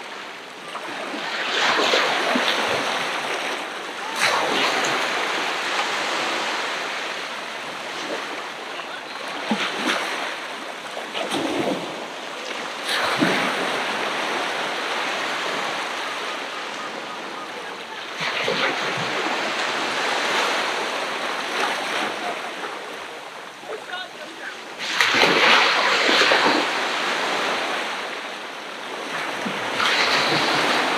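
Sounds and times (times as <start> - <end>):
ocean waves on a beach: 0.0 - 30.9.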